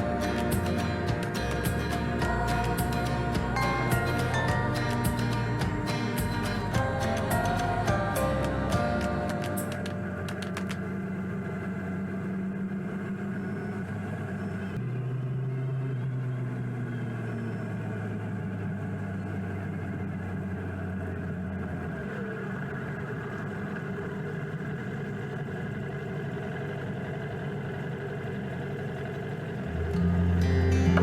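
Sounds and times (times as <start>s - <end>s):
motorcycle engine running steadily: 0.0s - 31.0s.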